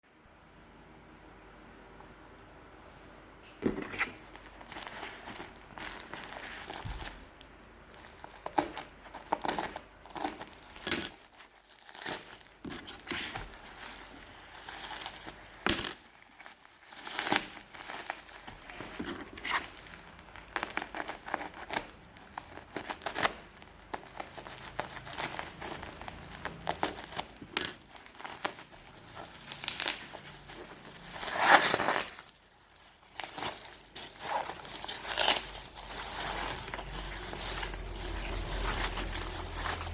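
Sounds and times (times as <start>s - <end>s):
packaging crinkling and rustling: 3.4s - 39.9s
packaging tearing: 3.9s - 39.9s.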